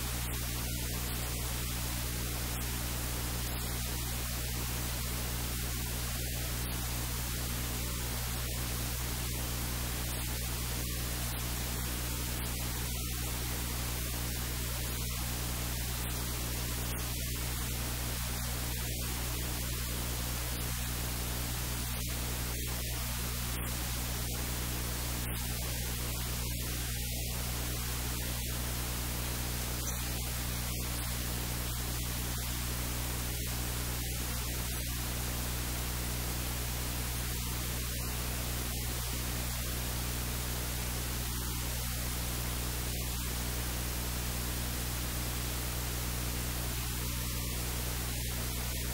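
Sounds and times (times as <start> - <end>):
low electrical hum: 0.0 - 48.9
static hiss: 0.0 - 48.9.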